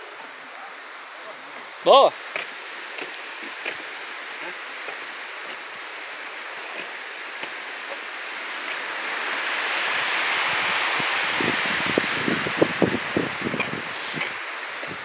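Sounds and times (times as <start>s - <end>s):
water rushing over dam spillway: 0.0s - 15.0s.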